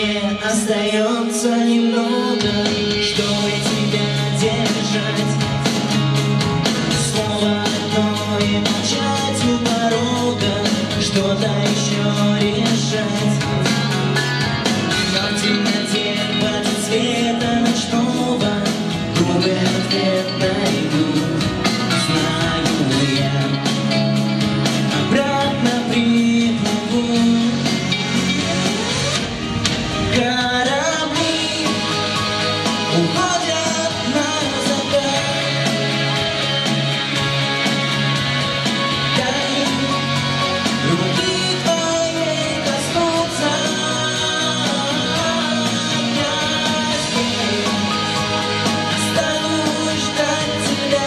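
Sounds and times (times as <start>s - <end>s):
man singing pop ballad: 0.0s - 29.1s, 29.9s - 51.0s
backing track over loudspeakers: 0.0s - 51.0s.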